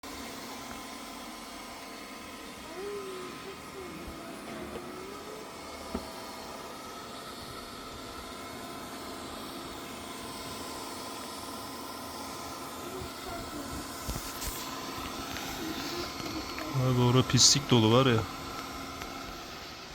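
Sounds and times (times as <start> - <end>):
robot vacuum whirring: 0.1 - 19.9.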